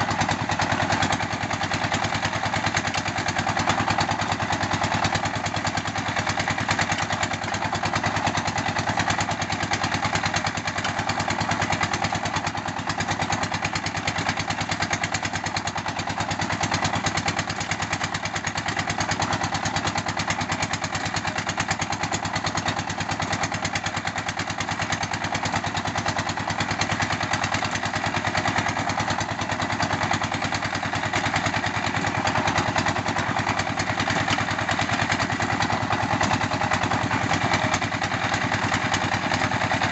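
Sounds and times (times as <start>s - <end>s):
machine engine running: 0.0s - 12.7s, 16.3s - 39.9s.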